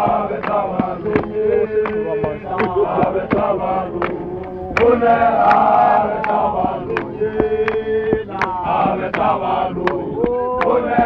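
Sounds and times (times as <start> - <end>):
men chanting and singing: 0.0 - 11.0
sharp handclaps: 0.0 - 11.0.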